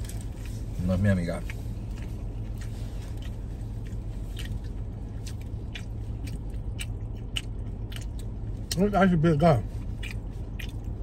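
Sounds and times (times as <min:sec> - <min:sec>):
chewing and mouth sounds: 0:00.0 - 0:09.0, 0:09.6 - 0:11.0
steady low hum: 0:00.0 - 0:11.0.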